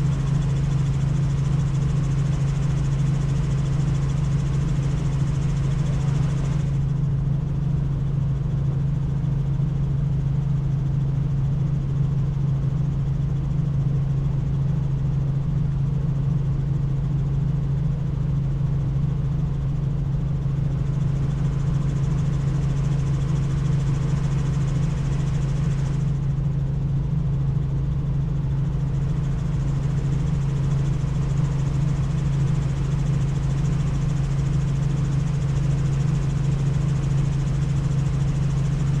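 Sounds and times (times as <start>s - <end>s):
helicopter rotor and engine drone: 0.0s - 39.0s.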